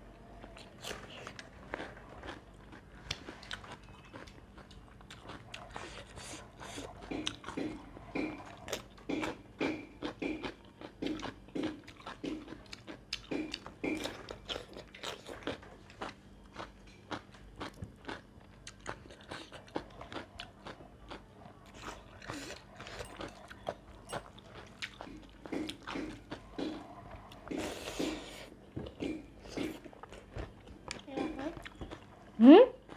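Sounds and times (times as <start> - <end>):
person chewing crunchy food: 0.1 - 32.9.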